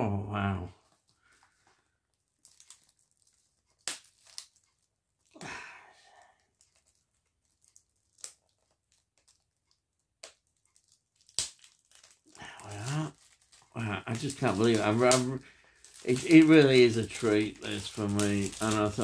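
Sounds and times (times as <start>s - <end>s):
plastic wrap crinkling and ripping: 0.8s - 19.0s.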